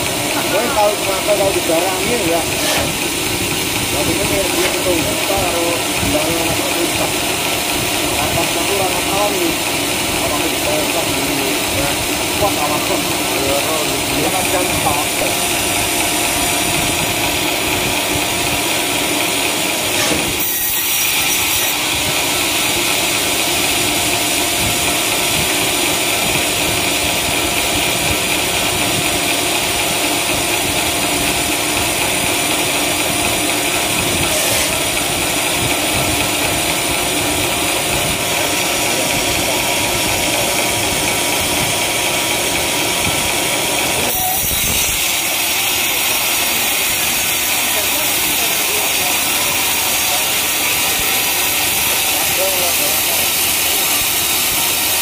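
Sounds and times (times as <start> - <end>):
band saw running: 0.0 - 55.0.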